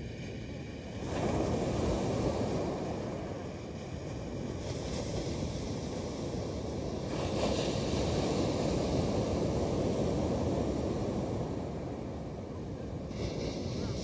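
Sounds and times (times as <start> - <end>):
waves breaking on shingle beach: 0.9 - 14.0.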